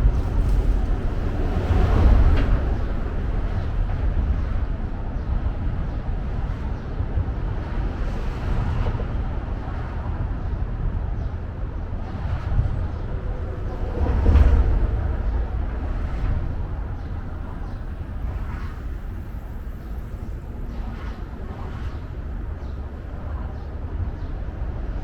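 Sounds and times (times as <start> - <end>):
low city rumble: 0.0 - 25.0.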